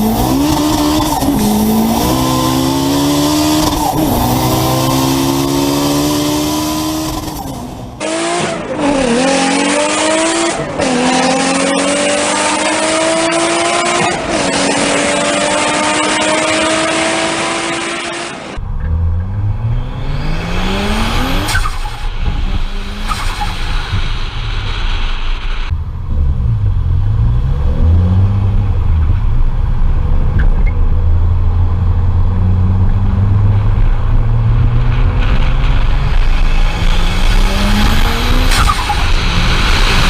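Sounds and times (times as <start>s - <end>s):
car engine accelerating hard: 0.0s - 40.0s.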